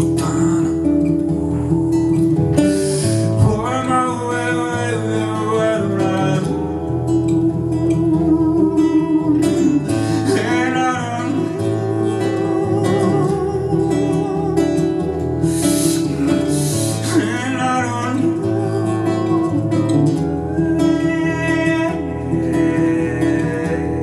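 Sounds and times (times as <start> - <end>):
acoustic guitar: 0.0 - 24.0
person singing wordless tones: 0.0 - 24.0.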